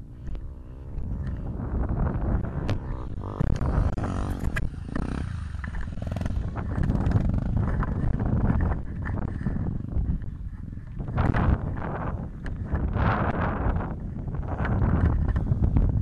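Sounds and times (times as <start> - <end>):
dirt bike engine running: 0.0 - 16.0
wind buffeting microphone: 0.0 - 16.0.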